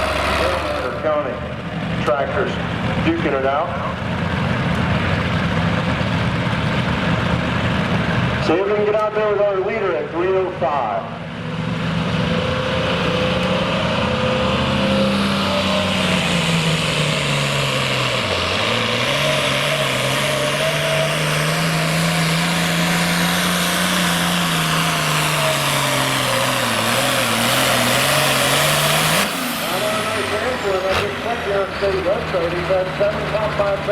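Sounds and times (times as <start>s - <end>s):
tractor engine at full throttle: 0.0s - 33.9s.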